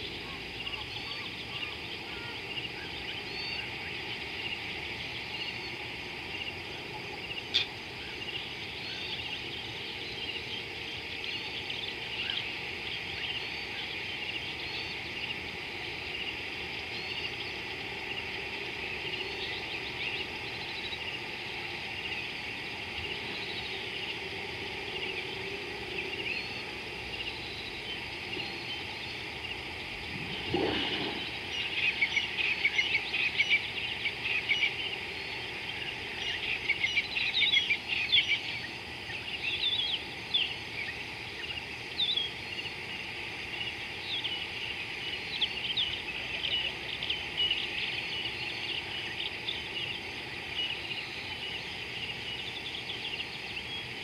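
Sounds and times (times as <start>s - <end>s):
birds and insects chirping: 0.0s - 54.0s.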